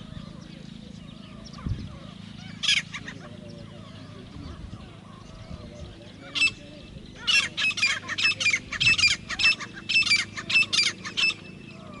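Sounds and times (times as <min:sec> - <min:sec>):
francolin calling harshly: 0:00.0 - 0:12.0.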